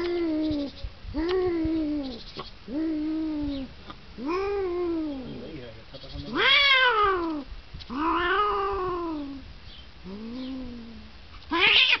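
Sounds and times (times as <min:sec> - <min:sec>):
cats yowling: 0:00.0 - 0:05.4, 0:06.3 - 0:09.4, 0:10.1 - 0:12.0.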